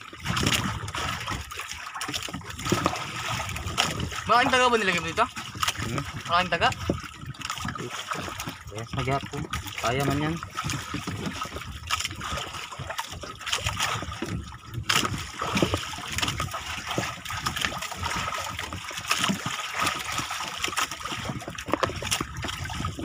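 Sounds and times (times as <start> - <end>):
slaps of water: 0.0 - 23.0
water lapping against boat hull: 0.0 - 23.0.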